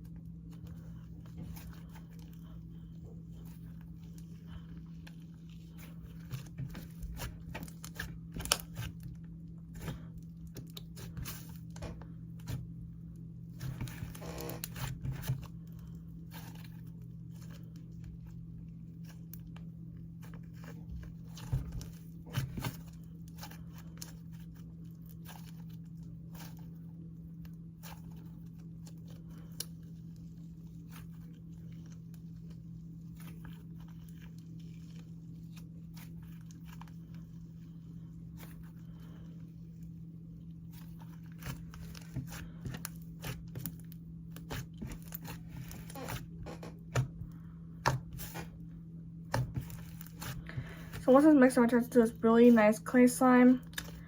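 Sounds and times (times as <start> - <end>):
slime squishing by hand: 0.0 - 54.0
steady low hum: 0.0 - 54.0.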